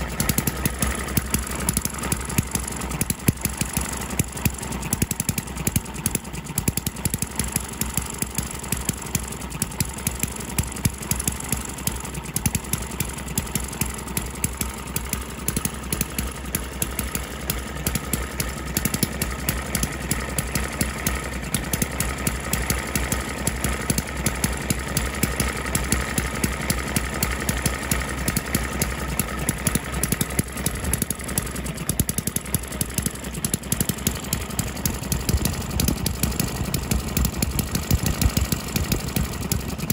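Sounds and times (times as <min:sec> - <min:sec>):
hit-and-miss engine running: 0:00.0 - 0:39.9.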